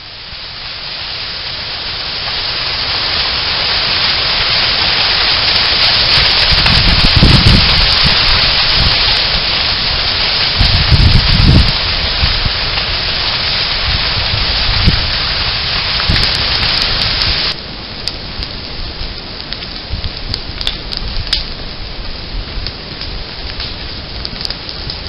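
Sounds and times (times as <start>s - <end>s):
fire crackles and pops: 0.0s - 25.0s
hiss of burning brush: 0.0s - 25.0s.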